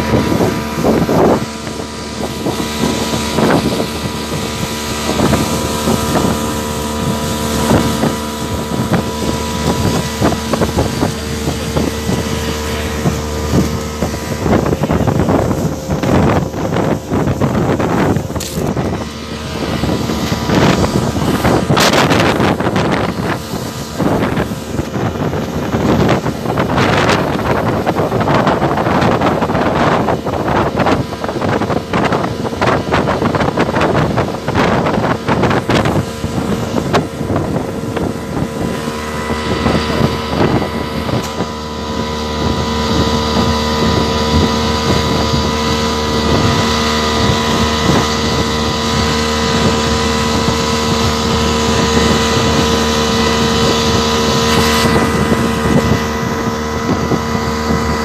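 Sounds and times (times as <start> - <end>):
outboard motor whine: 0.0 - 58.0
rushing water: 0.0 - 58.0
wind buffeting microphone: 0.0 - 58.0.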